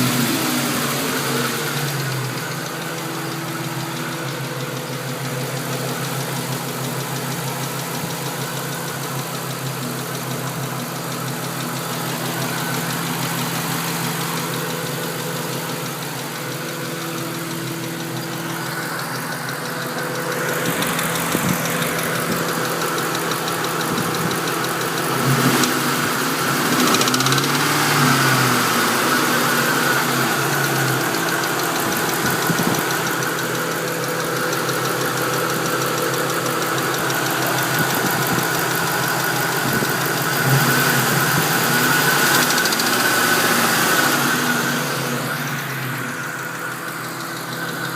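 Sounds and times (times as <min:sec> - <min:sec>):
car engine idling: 0:00.0 - 0:47.9
engine ticking noise: 0:00.0 - 0:47.9.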